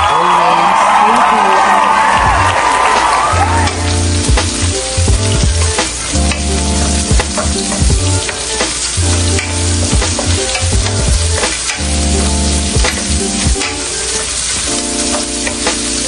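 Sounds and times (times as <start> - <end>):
onions sizzling in oil: 2.4 - 16.0.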